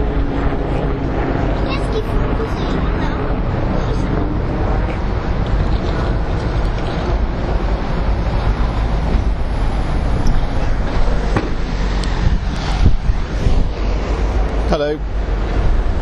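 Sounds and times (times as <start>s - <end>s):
city street traffic: 0.0s - 16.0s
wind rumble on microphone: 0.0s - 16.0s.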